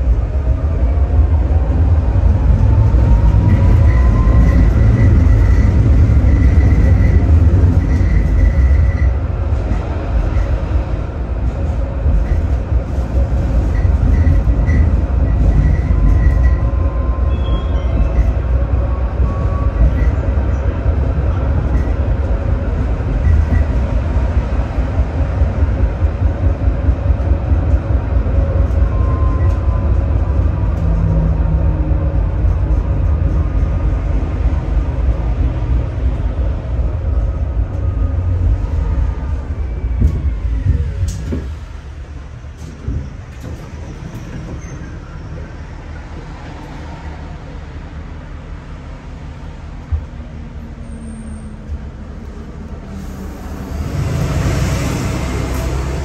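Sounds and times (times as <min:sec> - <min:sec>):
tram wheels rumbling on track: 0:00.0 - 0:56.0.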